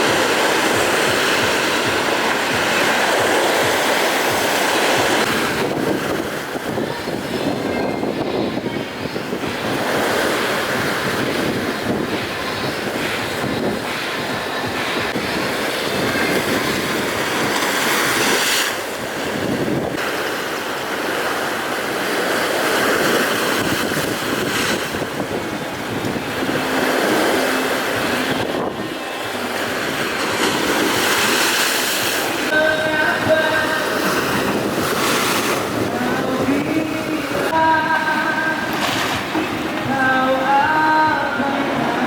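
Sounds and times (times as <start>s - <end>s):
sea waves breaking: 0.0s - 42.0s
wind on microphone: 0.0s - 42.0s.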